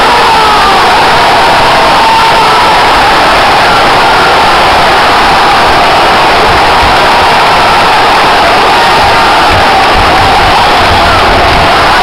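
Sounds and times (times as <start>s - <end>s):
crowd cheering: 0.0s - 12.0s.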